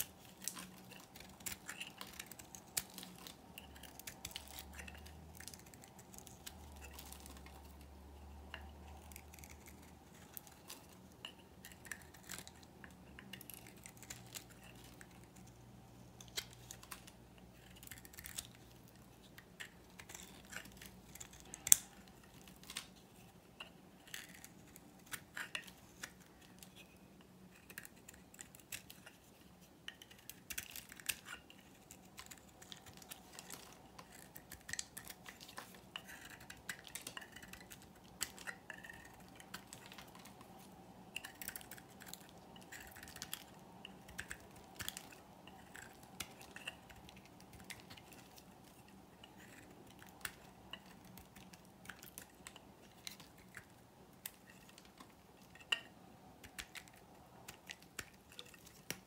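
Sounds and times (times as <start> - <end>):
knife shaving soap: 0.0 - 59.0.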